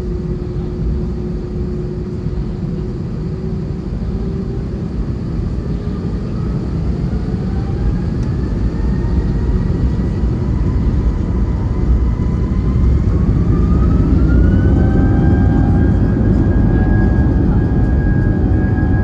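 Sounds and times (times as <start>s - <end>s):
engine whine rising: 0.0s - 19.0s
jet engines rumbling in cabin: 0.0s - 19.0s.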